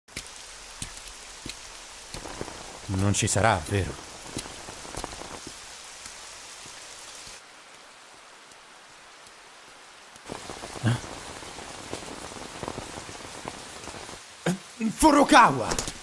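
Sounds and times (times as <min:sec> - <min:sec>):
rain falling: 0:00.1 - 0:16.0.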